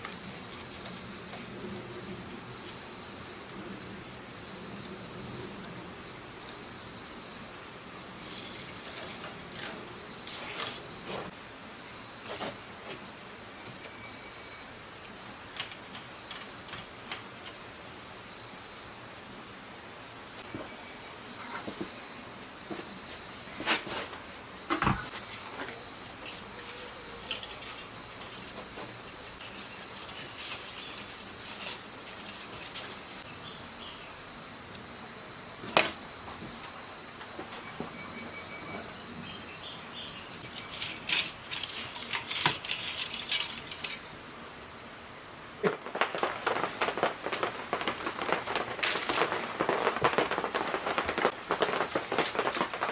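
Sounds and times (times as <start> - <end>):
steady high-pitched hiss: 0.0 - 52.9.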